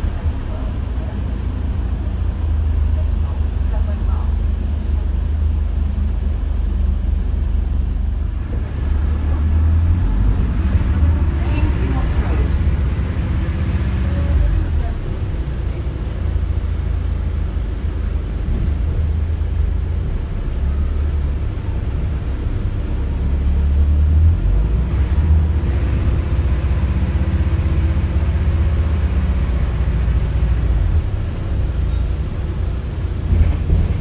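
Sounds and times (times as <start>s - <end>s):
bus cabin low rumble: 0.0s - 34.0s.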